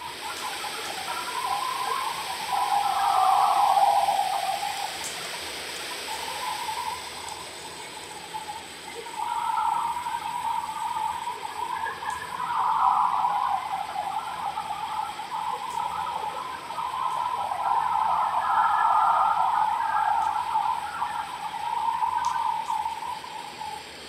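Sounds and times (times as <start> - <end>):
steady hiss: 0.0 - 24.0
wavering mid-pitched drone: 0.0 - 24.0.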